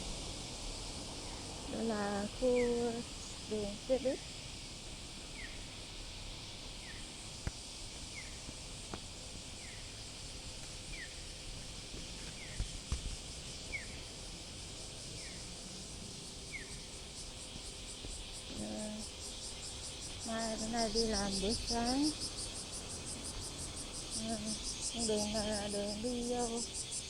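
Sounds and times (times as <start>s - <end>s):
cicadas droning: 0.0s - 27.0s.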